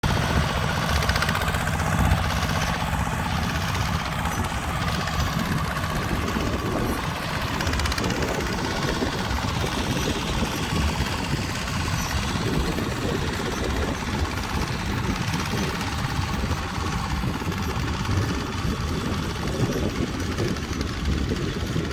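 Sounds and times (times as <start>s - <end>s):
tractor engine rumbling: 0.0s - 21.9s.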